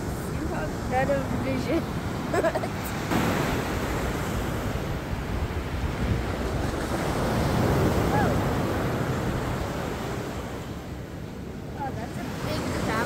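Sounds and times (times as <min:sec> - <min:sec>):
ocean surf washing: 0:00.0 - 0:13.0
wind buffeting microphone: 0:00.0 - 0:13.0.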